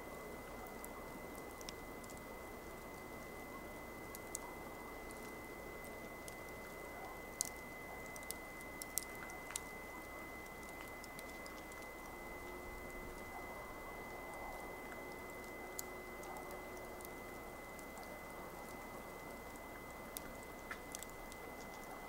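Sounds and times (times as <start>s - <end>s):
campfire crackling and popping: 0.0s - 22.0s
low fire hiss: 0.0s - 22.0s.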